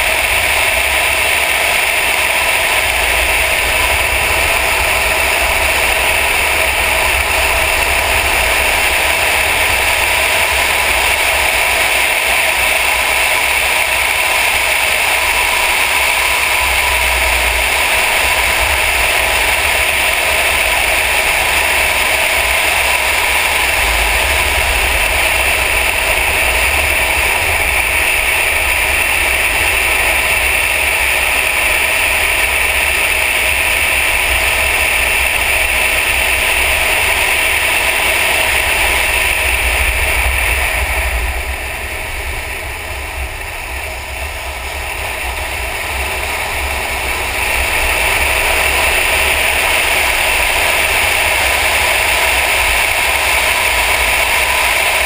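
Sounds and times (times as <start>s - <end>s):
car engine and road drone: 0.0s - 55.0s.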